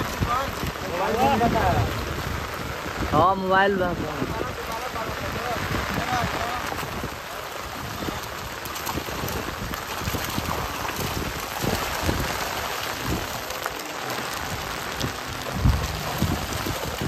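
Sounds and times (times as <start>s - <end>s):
heavy splash: 0.0s - 17.0s
rain on pond water: 0.0s - 17.0s.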